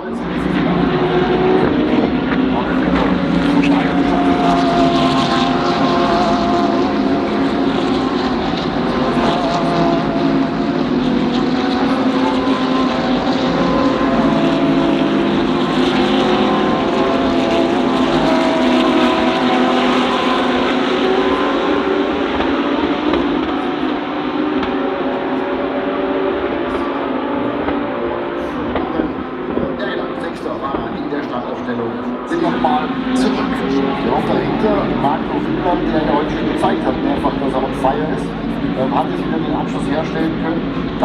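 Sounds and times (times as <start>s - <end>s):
race car engines: 0.0s - 41.0s.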